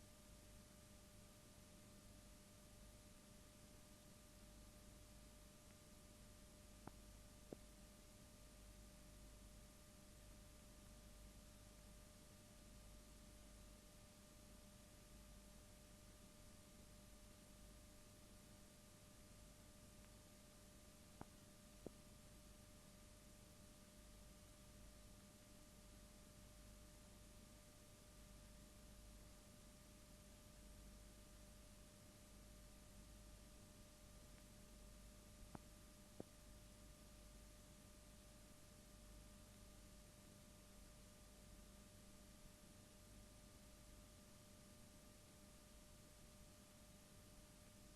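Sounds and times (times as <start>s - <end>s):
faint constant tone: 0.0s - 47.9s
faint steady hiss: 0.0s - 47.9s
faint steady hum: 0.0s - 47.9s.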